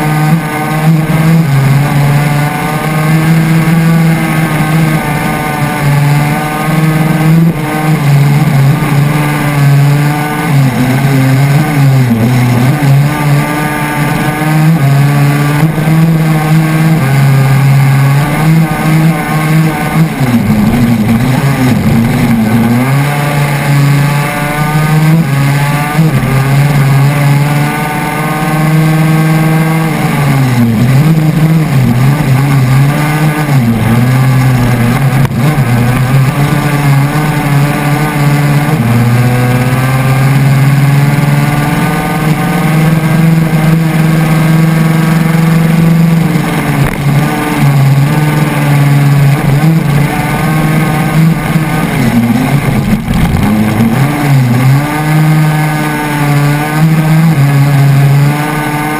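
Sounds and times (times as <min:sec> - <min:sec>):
two-stroke engine racing at high revs: 0:00.0 - 0:58.9.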